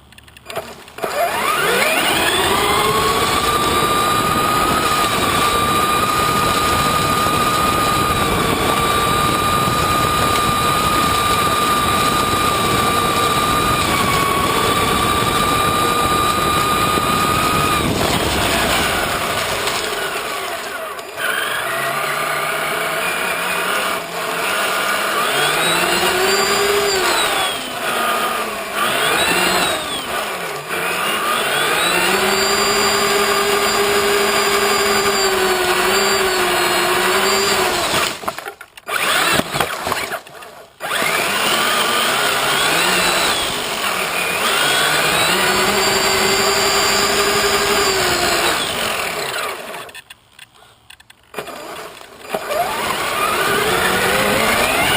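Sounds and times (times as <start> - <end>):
electric motor whining: 0.0 - 54.9.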